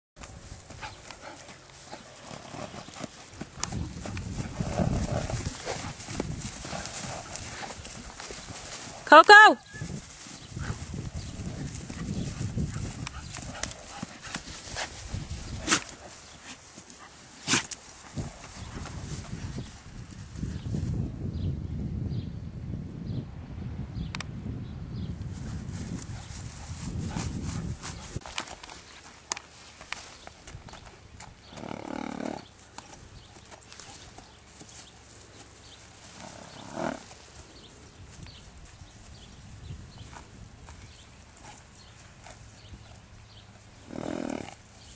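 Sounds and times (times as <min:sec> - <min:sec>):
hooves thudding on grass: 0:00.2 - 0:21.0, 0:25.2 - 0:44.9.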